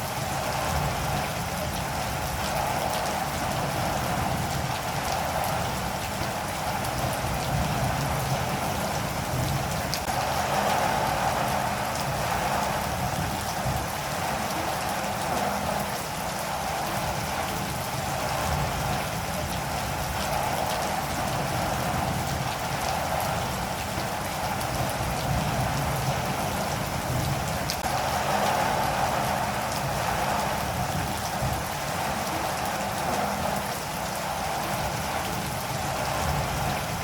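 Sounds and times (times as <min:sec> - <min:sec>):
steady rain falling: 0:00.0 - 0:37.0
raindrop ticks: 0:00.1 - 0:37.0.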